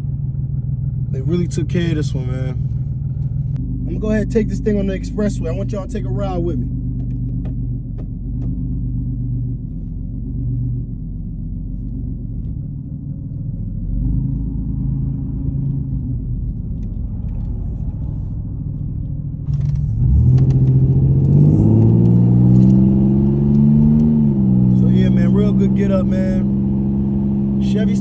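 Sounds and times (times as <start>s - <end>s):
car engine and exhaust running: 0.0s - 28.0s.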